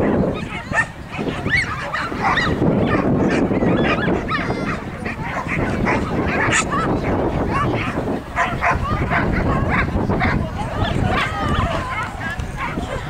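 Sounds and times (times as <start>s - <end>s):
dogs barking and yapping: 0.0s - 13.0s.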